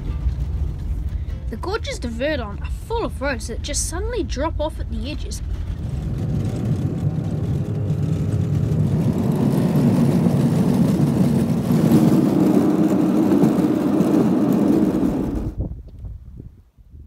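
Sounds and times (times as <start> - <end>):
engine and road noise rumble: 0.0 - 16.5.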